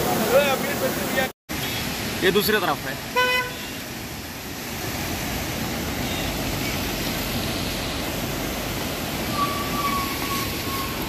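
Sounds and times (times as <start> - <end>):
rushing outdoor noise: 0.0 - 11.0.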